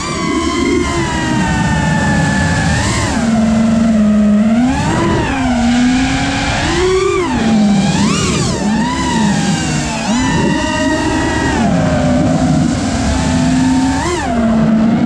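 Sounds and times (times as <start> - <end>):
quadcopter motors whining: 0.0 - 15.0
wind noise: 0.0 - 15.0.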